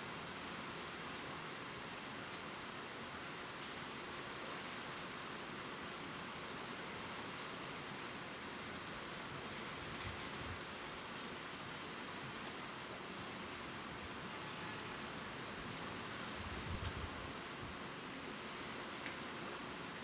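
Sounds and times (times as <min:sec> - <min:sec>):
rain ticking on leaves: 0:00.0 - 0:20.0.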